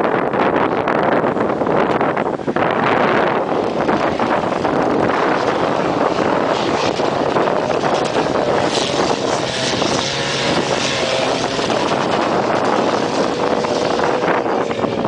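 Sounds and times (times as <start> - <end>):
quad bike engine drone: 0.0 - 15.0
wind buffeting microphone: 0.0 - 15.0.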